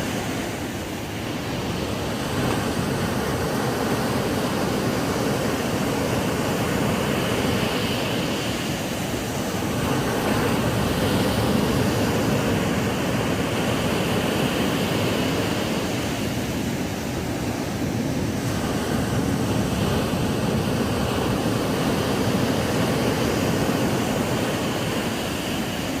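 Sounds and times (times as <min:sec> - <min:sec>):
ocean waves on beach: 0:00.0 - 0:26.0.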